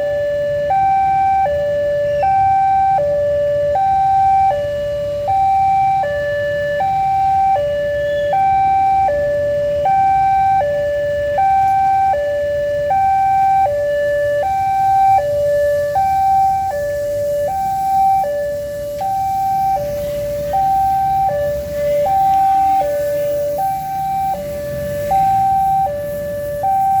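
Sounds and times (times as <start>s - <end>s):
level-crossing two-tone alarm: 0.0s - 27.0s
low traffic rumble: 0.0s - 27.0s.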